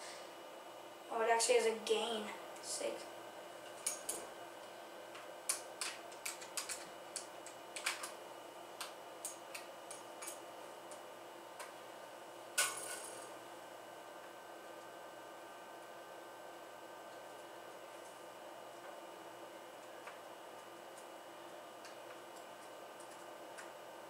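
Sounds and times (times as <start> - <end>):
faint electrical whine: 0.0 - 24.0.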